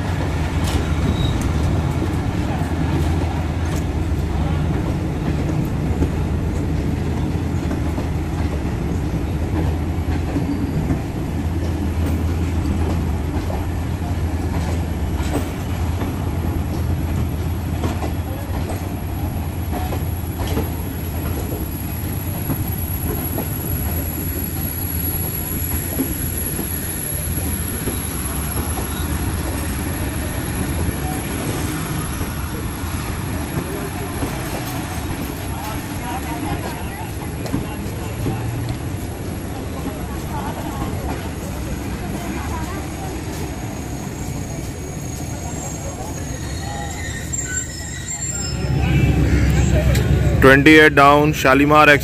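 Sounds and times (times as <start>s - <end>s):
diesel locomotive drone: 0.0s - 52.0s.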